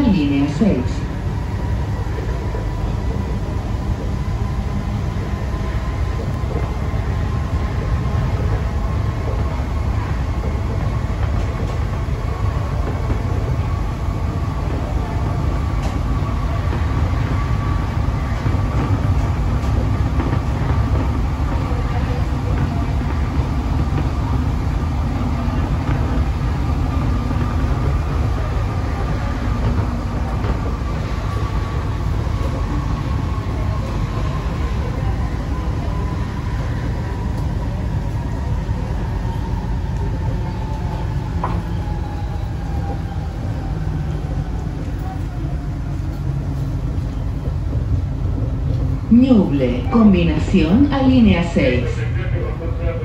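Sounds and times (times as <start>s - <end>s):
metro train cabin rumble: 0.0s - 53.0s.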